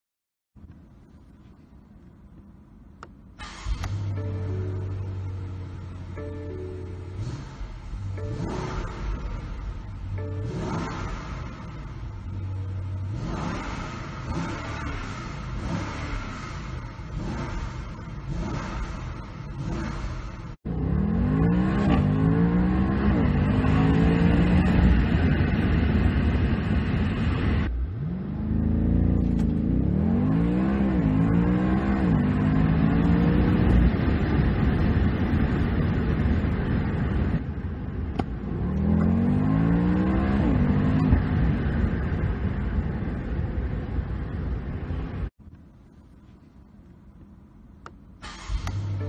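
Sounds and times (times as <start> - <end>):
engine accelerating with upshifts: 3.0 - 45.4, 48.2 - 49.0
car engine revving: 3.4 - 37.4, 38.1 - 45.3.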